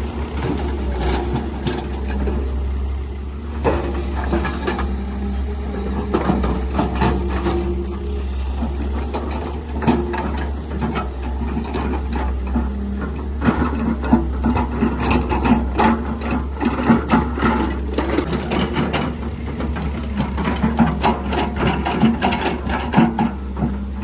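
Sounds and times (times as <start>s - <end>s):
machinery low hum: 0.0s - 24.0s.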